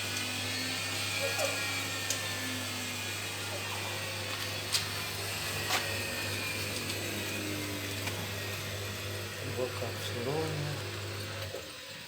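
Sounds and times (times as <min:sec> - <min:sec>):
washing machine hum: 0:00.0 - 0:12.0.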